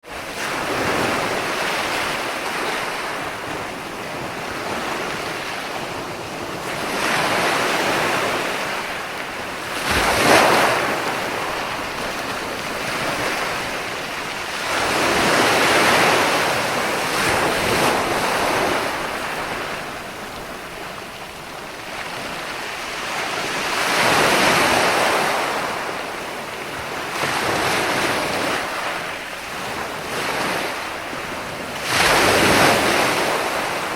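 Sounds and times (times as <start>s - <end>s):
ocean waves breaking: 0.0s - 33.9s.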